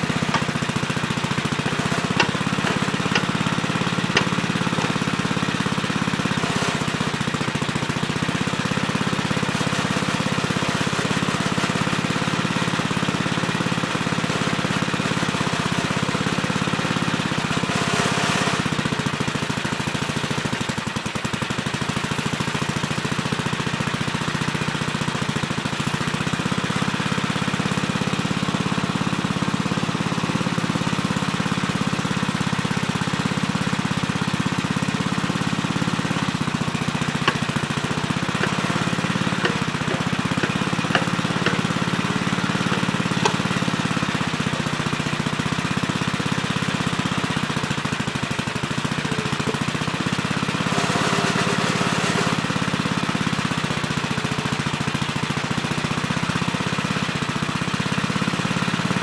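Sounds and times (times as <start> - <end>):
backhoe engine running: 0.0 - 59.0.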